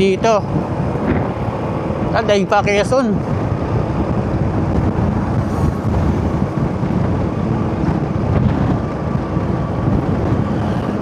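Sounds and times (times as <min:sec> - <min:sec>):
motorcycle engine: 0:00.0 - 0:11.0
road rumble: 0:00.0 - 0:11.0
wind buffeting microphone: 0:00.0 - 0:11.0.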